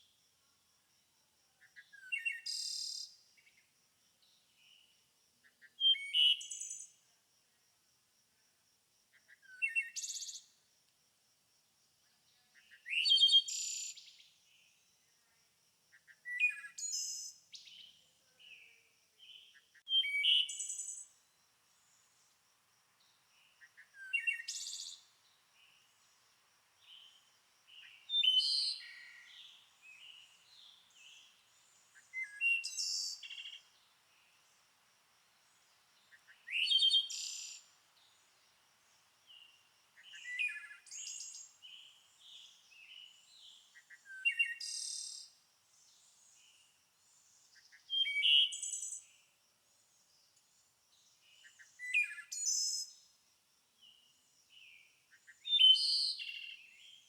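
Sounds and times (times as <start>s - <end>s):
songbird singing: 1.5s - 7.1s, 9.1s - 10.6s, 12.0s - 49.3s, 49.9s - 53.2s, 53.8s - 57.0s.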